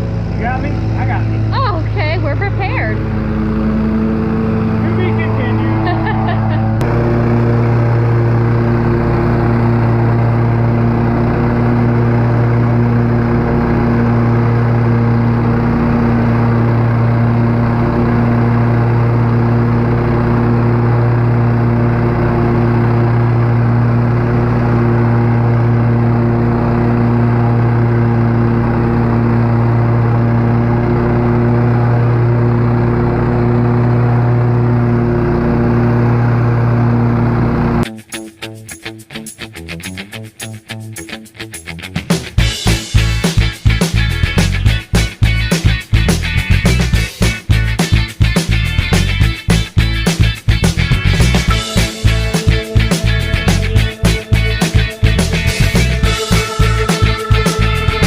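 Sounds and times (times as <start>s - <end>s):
lawn mower engine running: 0.0s - 37.9s, 42.0s - 58.0s.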